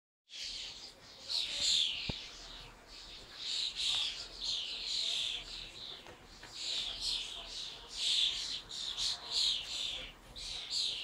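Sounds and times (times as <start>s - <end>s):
small birds chirping: 0.3s - 11.0s.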